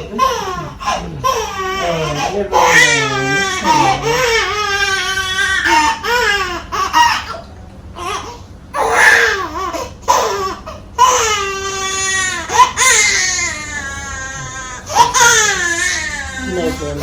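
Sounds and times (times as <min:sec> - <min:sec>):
infant crying: 0:00.0 - 0:07.4, 0:08.0 - 0:17.0.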